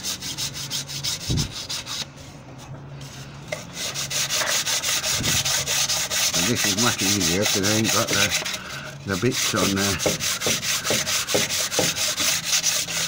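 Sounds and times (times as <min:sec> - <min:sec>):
sandpaper scratching on metal: 0:00.0 - 0:02.1, 0:03.7 - 0:13.0.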